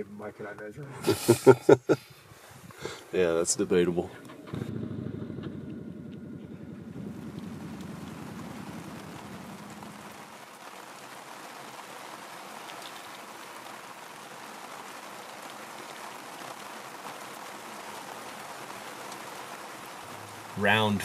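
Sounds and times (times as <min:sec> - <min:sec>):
rain drops ticking: 0:00.0 - 0:02.1, 0:02.7 - 0:21.0
rain hissing: 0:00.0 - 0:21.0.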